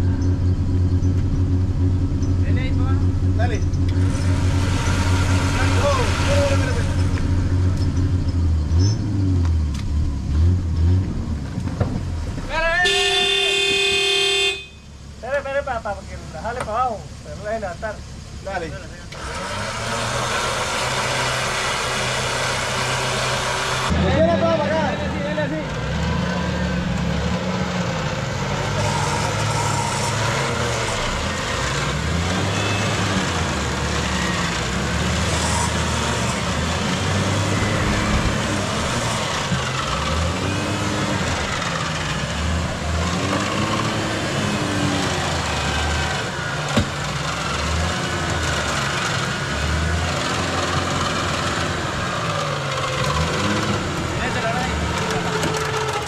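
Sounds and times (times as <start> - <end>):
off-road vehicle engine revving: 0.0 - 14.6, 15.3 - 56.0.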